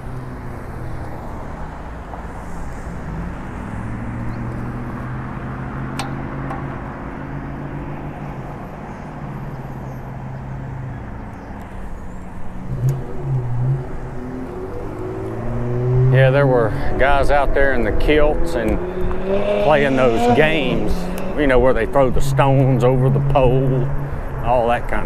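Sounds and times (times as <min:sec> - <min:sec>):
motor traffic passing: 0:00.0 - 0:25.0
road and wind noise: 0:00.0 - 0:25.0.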